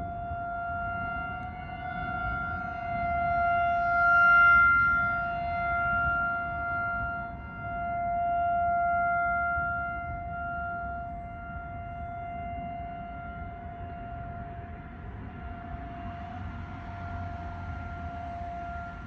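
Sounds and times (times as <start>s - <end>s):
warning siren steady tone: 0.0s - 19.0s.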